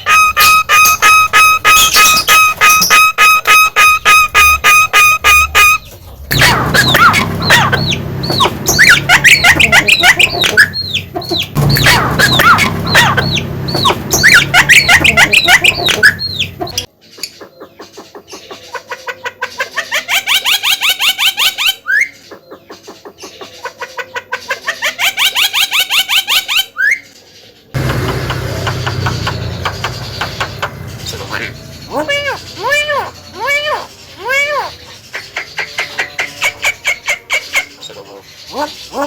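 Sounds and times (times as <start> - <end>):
myna bird singing: 0.0 - 39.0.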